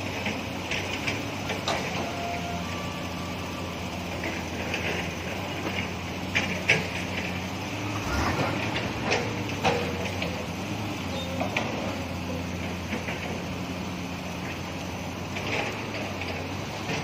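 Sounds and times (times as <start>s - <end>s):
diesel machinery engine running: 0.0s - 17.0s.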